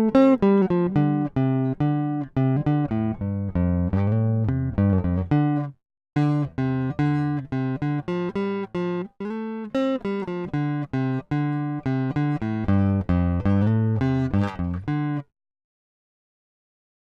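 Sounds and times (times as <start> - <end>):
clean electric guitar melody: 0.0 - 15.3.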